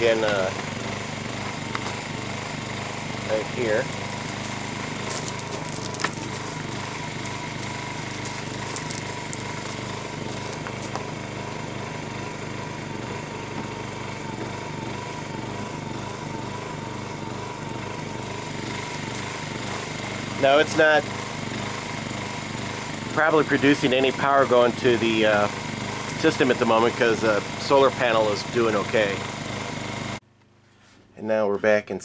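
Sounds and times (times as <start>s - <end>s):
generator running: 0.0s - 31.0s.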